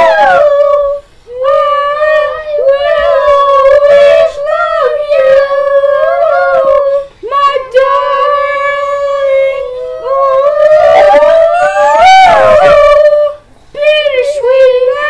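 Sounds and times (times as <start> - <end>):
person singing a cappella: 0.0 - 15.0.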